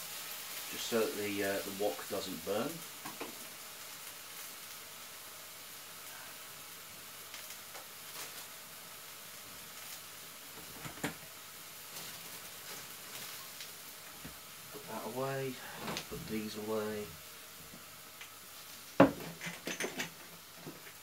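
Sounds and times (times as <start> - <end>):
vegetables sizzling in a wok: 0.0 - 21.0.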